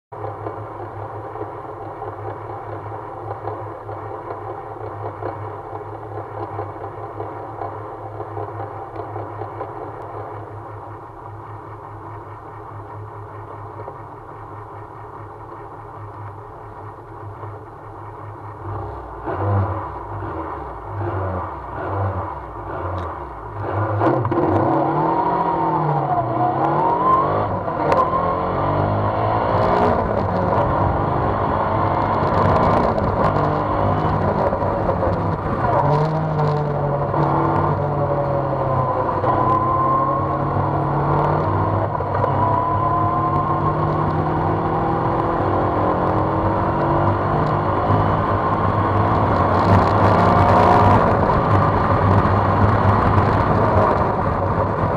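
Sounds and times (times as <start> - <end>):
car engine idling and revving: 0.1 - 54.9.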